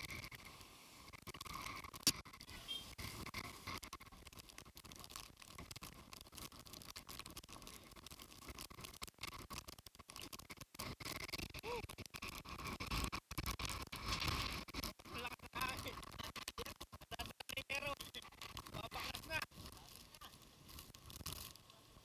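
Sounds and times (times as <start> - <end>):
rain and wind on microphone: 0.0 - 22.0
small irregular clicks: 0.0 - 22.0.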